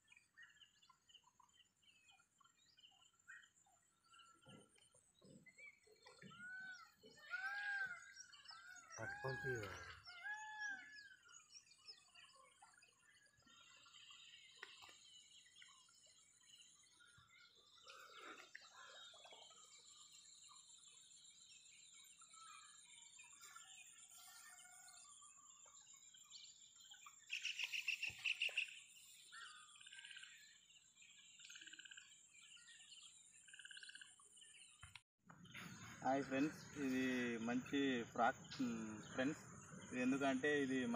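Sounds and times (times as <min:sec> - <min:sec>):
birds chirping: 0:00.0 - 0:40.9
rapidly pulsed bird call: 0:02.1 - 0:40.9.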